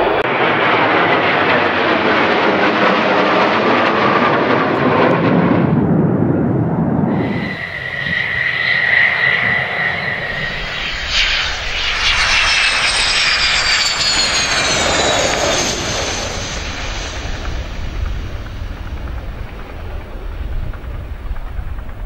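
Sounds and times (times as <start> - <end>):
jet engines whining and roaring: 0.0 - 22.0.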